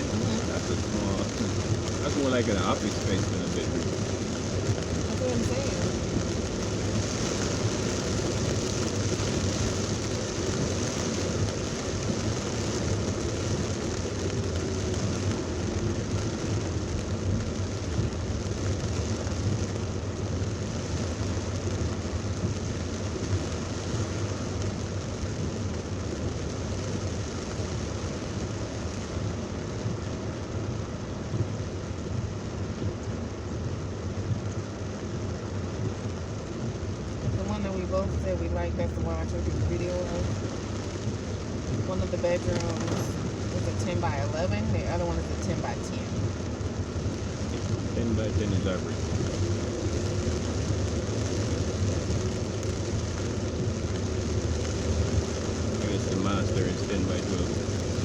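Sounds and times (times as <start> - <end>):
heavy rain pouring: 0.0 - 58.0
low vehicle rumble: 0.0 - 58.0.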